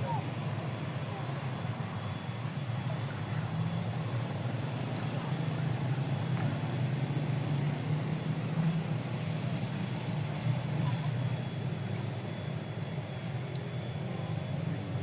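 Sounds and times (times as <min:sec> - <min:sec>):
low motor drone: 0:00.0 - 0:15.0.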